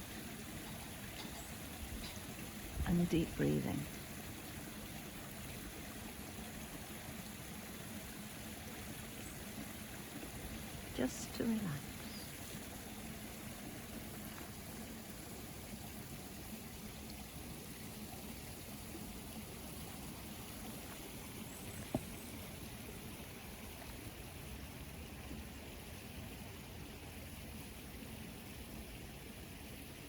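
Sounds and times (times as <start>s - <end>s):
water trickling: 0.0s - 30.0s.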